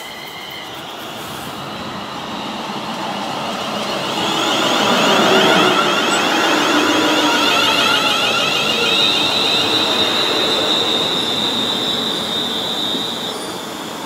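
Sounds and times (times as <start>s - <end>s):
electric train passing: 0.0s - 14.0s
train whine: 0.0s - 14.0s.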